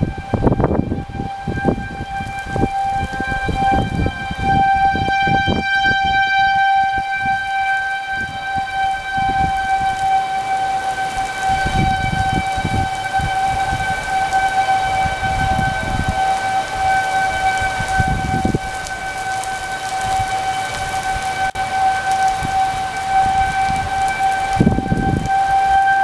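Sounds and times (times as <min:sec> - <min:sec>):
warning siren steady tone: 0:00.0 - 0:26.0
wind rumble on microphone: 0:00.0 - 0:26.0.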